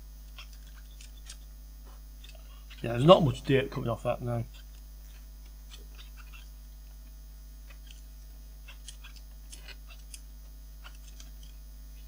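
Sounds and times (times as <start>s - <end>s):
low mains hum: 0.0s - 12.0s.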